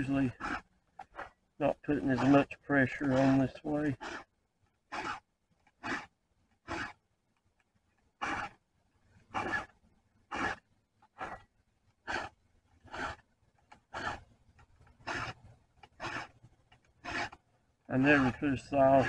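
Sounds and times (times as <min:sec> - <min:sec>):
file rasping on chainsaw chain: 0:00.0 - 0:07.0, 0:08.2 - 0:08.6, 0:09.2 - 0:19.0.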